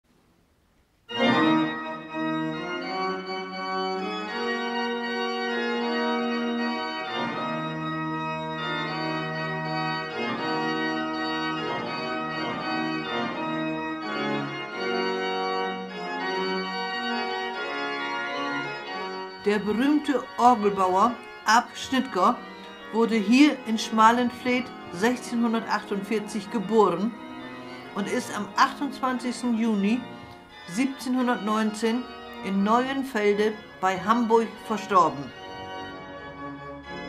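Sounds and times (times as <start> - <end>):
pipe organ playing held chords: 1.1 - 37.0.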